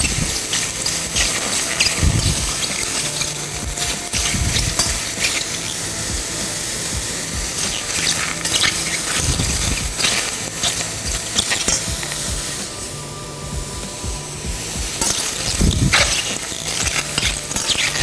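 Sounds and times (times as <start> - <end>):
metal spoon scraping a pan: 0.0 - 12.6, 14.9 - 18.0
mushrooms sizzling in a pan: 0.0 - 12.6, 14.6 - 18.0.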